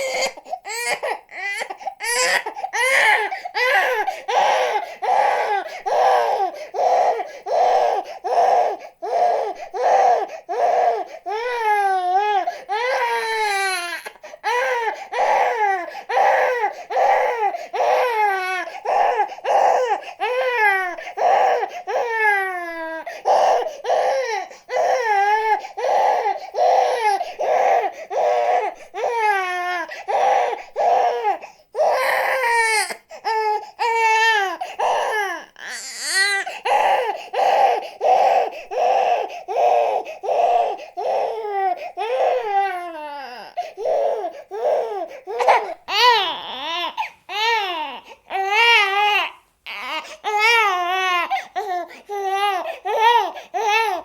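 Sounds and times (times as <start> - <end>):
baby crying: 0.0 - 54.0.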